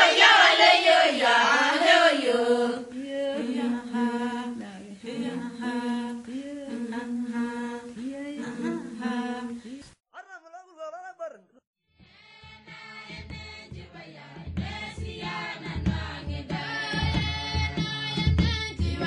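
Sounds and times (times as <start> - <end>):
unaccompanied singing voices: 0.0 - 10.0, 12.2 - 19.0.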